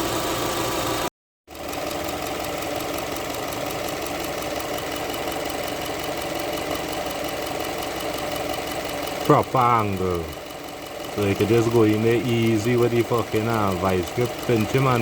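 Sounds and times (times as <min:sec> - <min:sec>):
car engine idling: 0:01.8 - 0:15.0.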